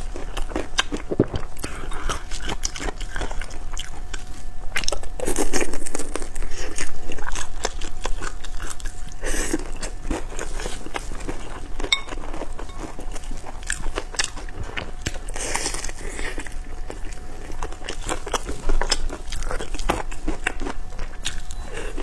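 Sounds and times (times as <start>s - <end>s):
chewing food close up: 0.0s - 22.0s.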